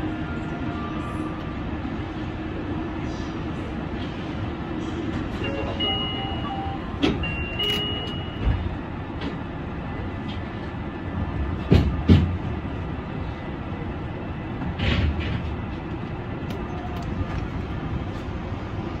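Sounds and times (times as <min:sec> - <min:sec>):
monorail running gear rumble: 0:00.0 - 0:19.0.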